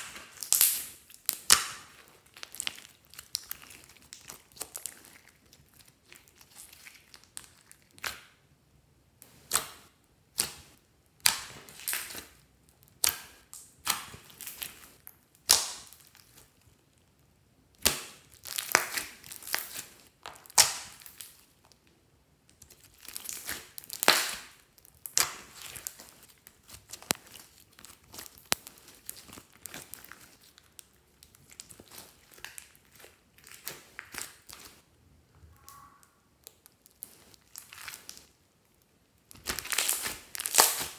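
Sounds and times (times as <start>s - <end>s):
slime crackling and squelching: 0.0s - 8.4s, 9.2s - 40.9s.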